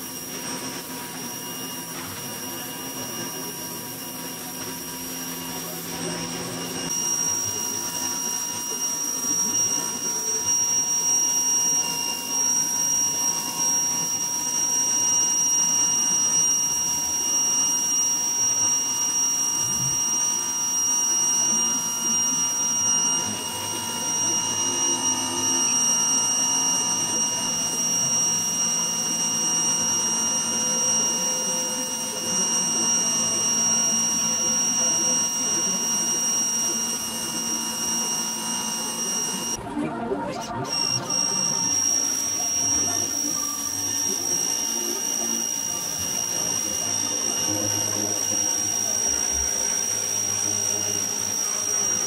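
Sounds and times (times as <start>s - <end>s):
pressure washer whine: 0.0s - 52.0s.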